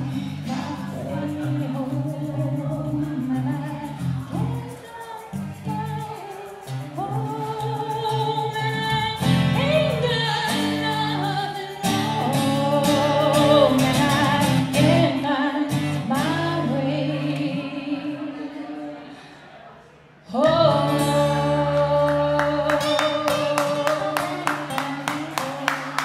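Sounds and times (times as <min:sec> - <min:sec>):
acoustic guitar strumming: 0:00.0 - 0:17.6, 0:20.4 - 0:26.0
woman singing with vibrato: 0:00.0 - 0:19.2, 0:20.3 - 0:26.0.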